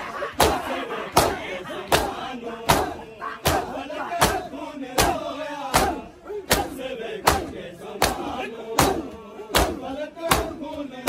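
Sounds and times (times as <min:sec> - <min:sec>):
hands slapping chests in unison: 0:00.0 - 0:10.8
voices chanting: 0:00.0 - 0:11.0.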